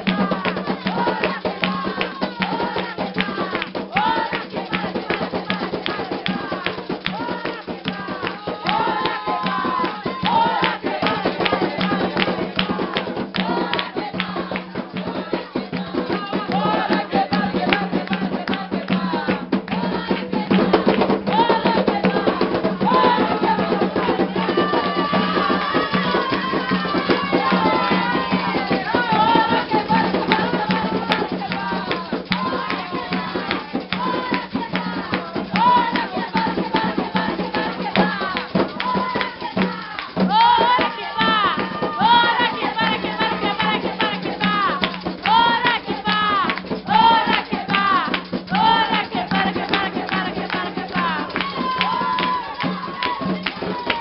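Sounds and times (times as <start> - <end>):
fast drumming: 0.0 - 54.0
shaken rattles: 0.0 - 54.0
voices singing: 0.0 - 54.0.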